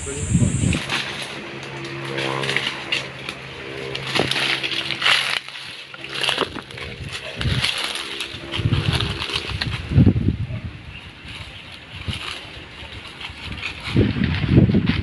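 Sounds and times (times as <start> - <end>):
leaves and twigs rustling: 0.0 - 15.0
steady low hum: 0.0 - 15.0.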